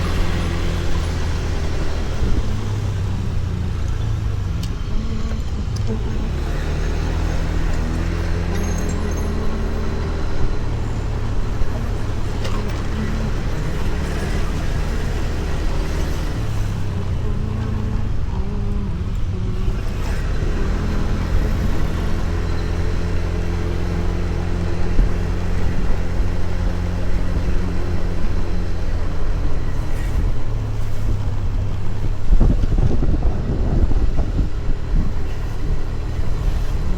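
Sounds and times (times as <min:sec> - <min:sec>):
road traffic: 0:00.0 - 0:36.9
scooter engine running: 0:00.0 - 0:36.9.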